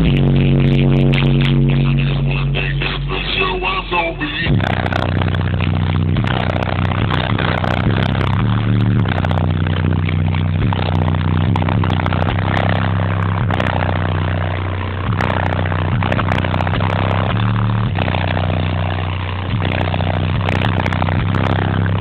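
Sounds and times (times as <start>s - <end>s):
loud subwoofer bass notes: 0.0s - 22.0s.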